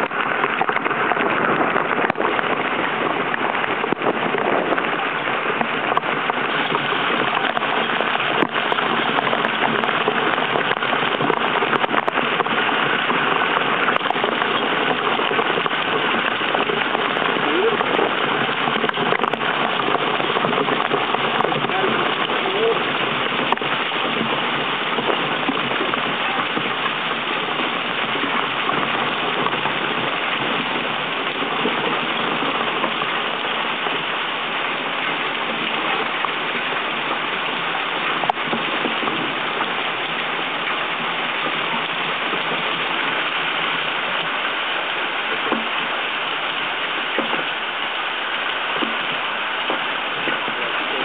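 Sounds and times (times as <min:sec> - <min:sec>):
heavy rain and wind: 0:00.0 - 0:51.0.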